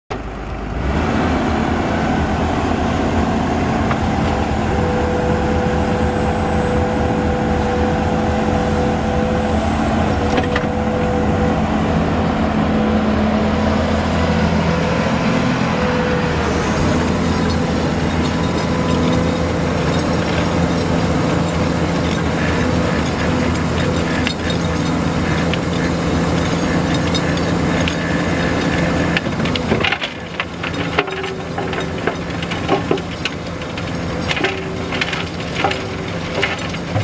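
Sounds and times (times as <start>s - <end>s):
diesel engine hum: 0.1s - 37.0s.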